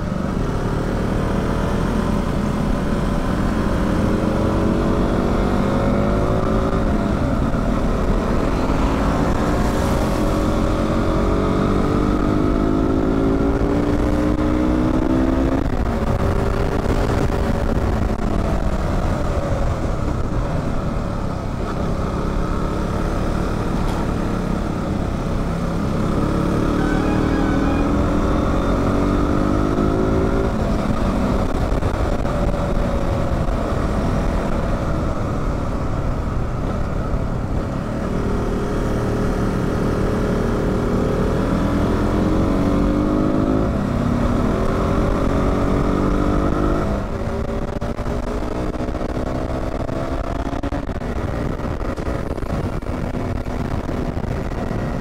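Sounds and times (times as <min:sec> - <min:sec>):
motorcycle engine accelerating: 0:00.0 - 0:55.0
wind and road noise: 0:00.0 - 0:55.0.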